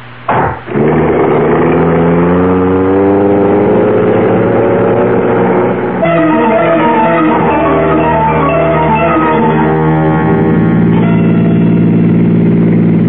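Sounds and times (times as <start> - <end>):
car engine starting and accelerating: 0.7 - 13.0.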